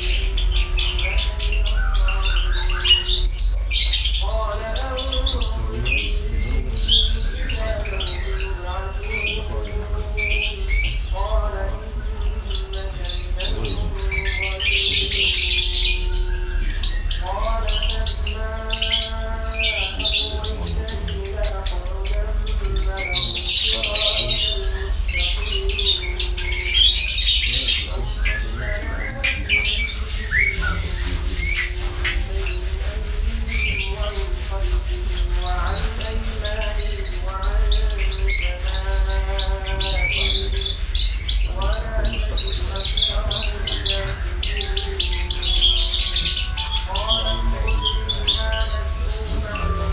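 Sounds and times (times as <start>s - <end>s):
lark singing chirps and trills: 0.0s - 49.9s
steady low hum: 0.0s - 49.9s.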